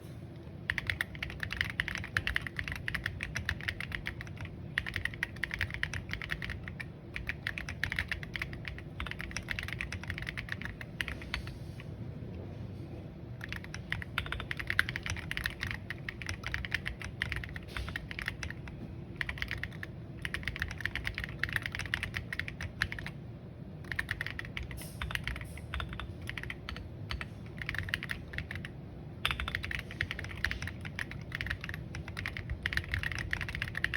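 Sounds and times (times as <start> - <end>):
fast typing on mechanical keyboard: 0.6 - 11.6, 13.3 - 23.2, 23.8 - 33.9.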